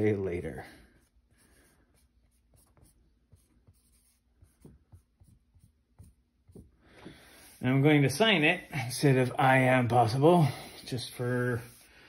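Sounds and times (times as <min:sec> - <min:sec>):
marker strokes on paper: 0:00.8 - 0:12.0.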